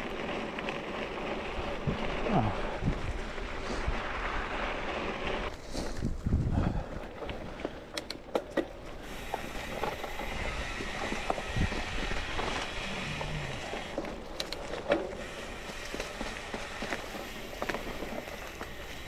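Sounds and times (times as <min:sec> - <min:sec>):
bike tyres rushing on dirt: 0:00.0 - 0:08.0, 0:08.6 - 0:19.0
bike clicking and rattling: 0:00.0 - 0:19.0.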